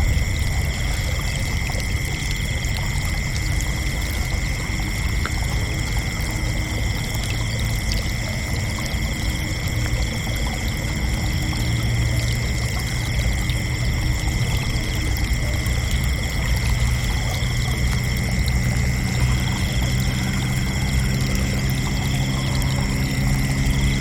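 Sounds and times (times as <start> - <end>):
crickets chirping: 0.0 - 24.0
low steady rumble: 0.0 - 24.0.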